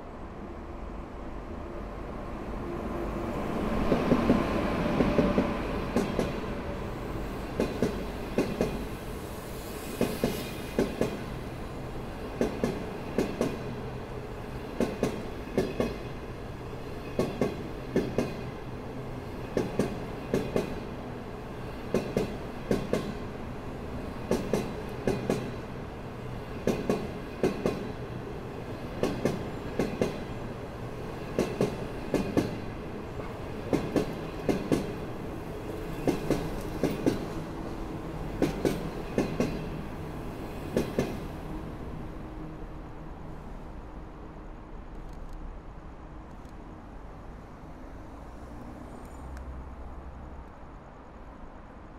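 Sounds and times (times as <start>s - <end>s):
electric locomotive passing: 0.3s - 45.6s, 46.7s - 51.9s.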